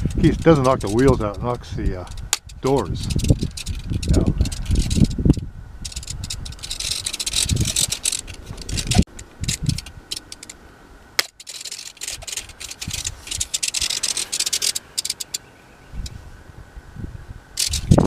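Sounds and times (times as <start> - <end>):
wind buffeting microphone: 0.0 - 10.3, 12.0 - 15.2, 15.8 - 18.0
rattling scraping clicks: 0.0 - 10.6, 11.2 - 16.2, 17.6 - 18.0.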